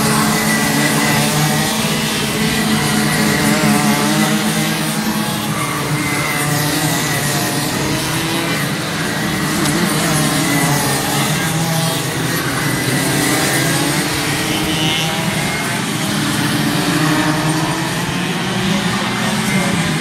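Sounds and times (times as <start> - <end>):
racing kart engines: 0.0 - 20.0.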